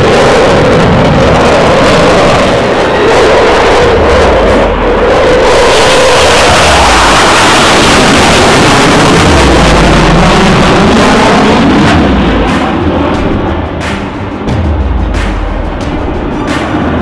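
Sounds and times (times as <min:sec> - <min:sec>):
fighter jet afterburner roar: 0:00.0 - 0:17.0.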